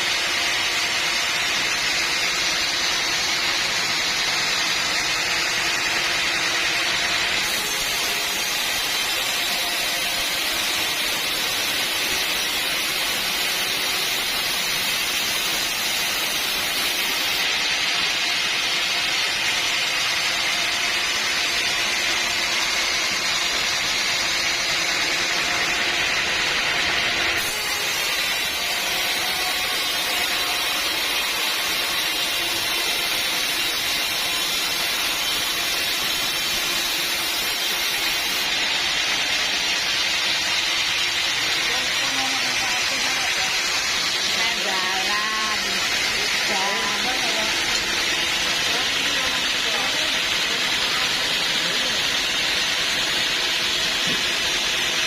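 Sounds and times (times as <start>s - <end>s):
saw cutting timber: 0.0s - 55.0s.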